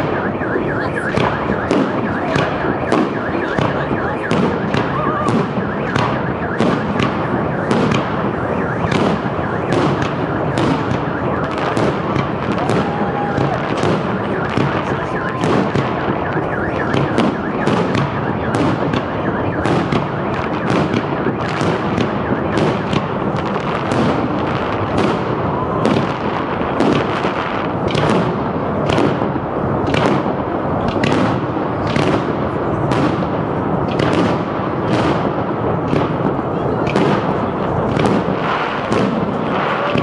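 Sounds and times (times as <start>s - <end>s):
dense fireworks rumble: 0.0s - 40.0s.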